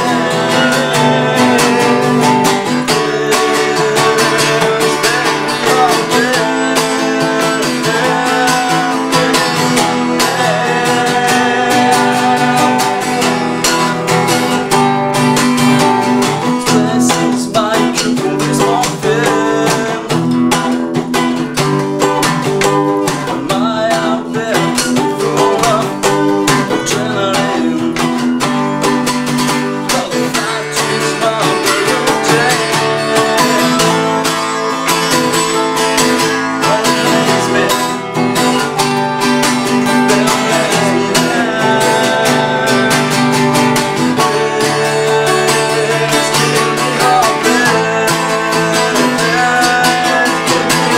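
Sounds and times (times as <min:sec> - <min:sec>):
acoustic guitars playing blues folk: 0:00.0 - 0:50.9.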